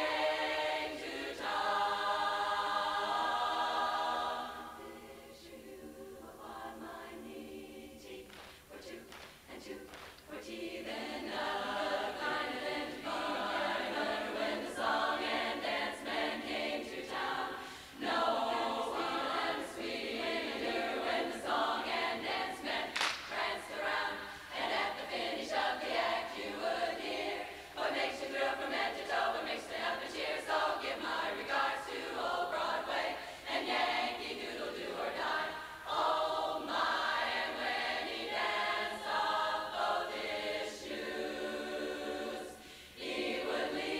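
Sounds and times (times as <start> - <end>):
women's chorus singing a cappella: 0.0 - 43.9.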